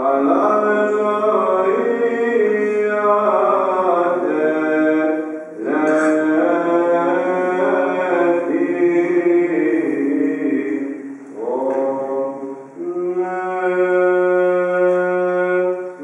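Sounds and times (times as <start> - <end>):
unaccompanied choral chant: 0.0 - 16.0.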